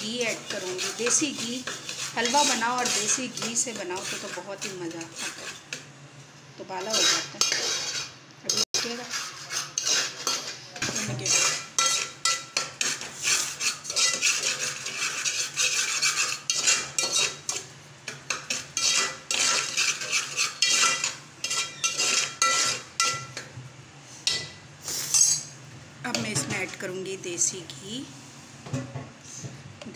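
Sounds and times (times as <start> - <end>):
metal spoon scraping a pot: 0.0 - 5.9, 6.7 - 23.5, 24.2 - 26.4.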